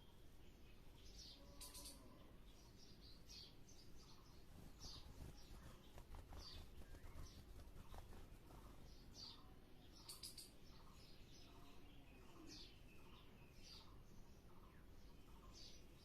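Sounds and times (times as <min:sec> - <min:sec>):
faint high bird chirps: 0:00.0 - 0:16.0
low background hum: 0:00.0 - 0:16.0.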